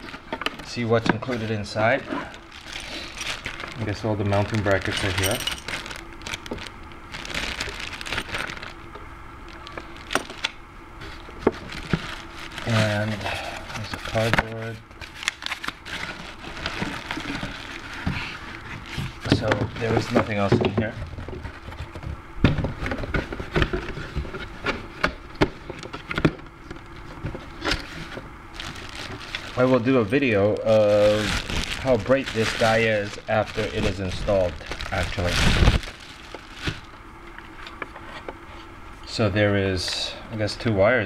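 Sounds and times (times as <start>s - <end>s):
handling rustle: 0.0s - 8.9s, 9.5s - 22.0s, 25.6s - 38.7s.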